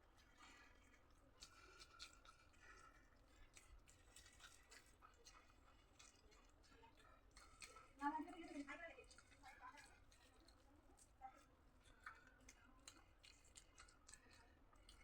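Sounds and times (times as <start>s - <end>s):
chewing mouth sounds: 0.2s - 15.0s.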